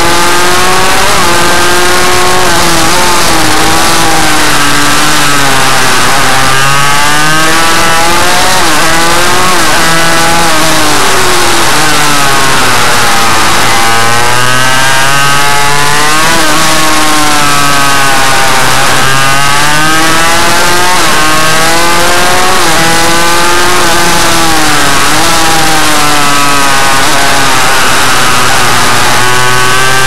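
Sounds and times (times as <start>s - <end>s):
motorcycle engine revving hard: 0.0s - 30.0s.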